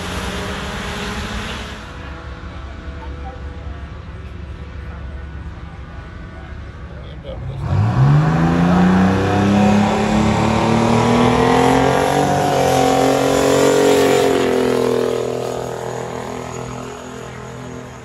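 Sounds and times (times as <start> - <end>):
truck engine accelerating hard: 0.0 - 18.0.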